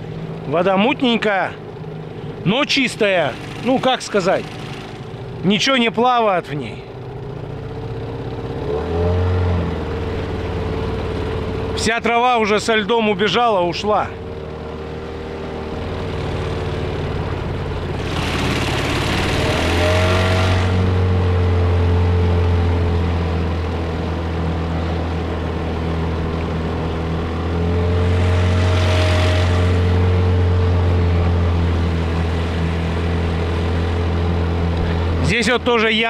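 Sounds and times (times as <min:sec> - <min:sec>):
outboard motor humming: 0:00.0 - 0:36.0.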